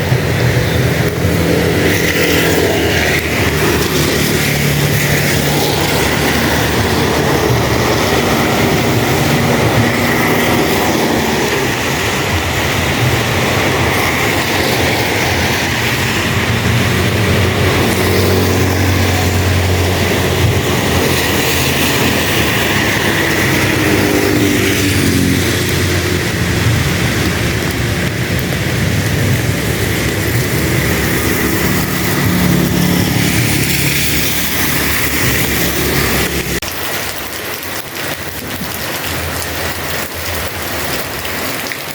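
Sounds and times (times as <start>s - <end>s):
heavy rain: 0.0s - 41.9s
vehicle engines humming: 0.0s - 41.9s.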